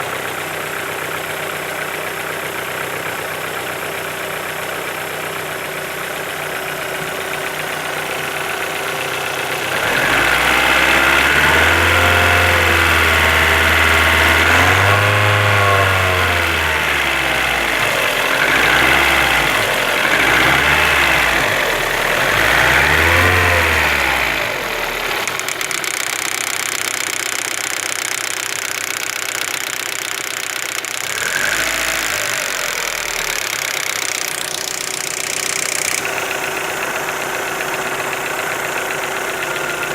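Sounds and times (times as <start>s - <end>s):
engine idling and revving: 0.0s - 39.9s.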